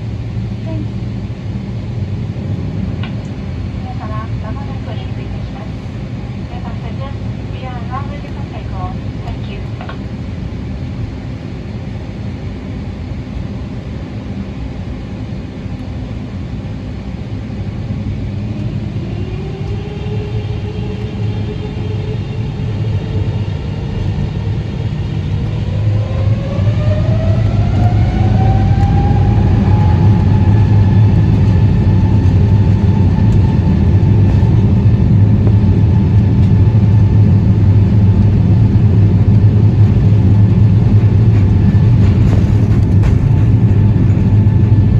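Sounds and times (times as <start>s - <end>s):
deep rumble of takeoff roll: 0.0s - 44.9s
jet engine whine: 0.0s - 44.9s.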